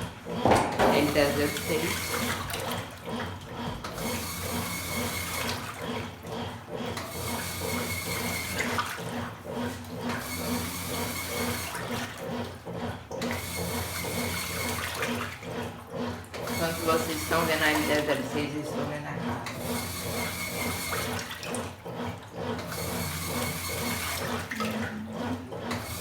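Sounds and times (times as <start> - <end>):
washing machine churning water: 0.0 - 26.0
washing machine motor whine: 0.0 - 26.0.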